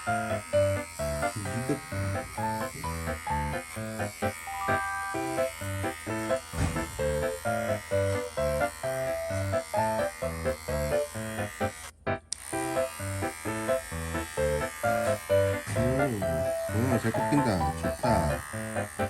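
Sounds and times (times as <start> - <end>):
electric hair clippers buzzing: 0.0 - 19.0.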